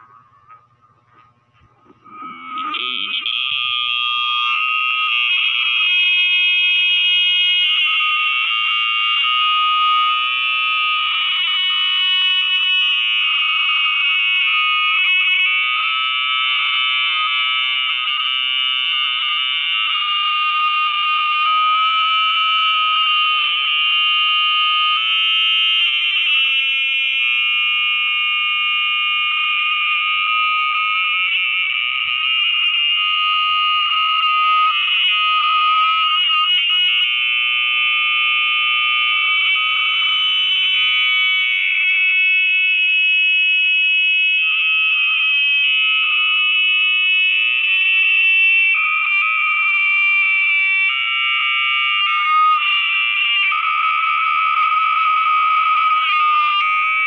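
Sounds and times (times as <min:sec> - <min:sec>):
high-pitched feedback squeal: 0:00.0 - 0:57.0.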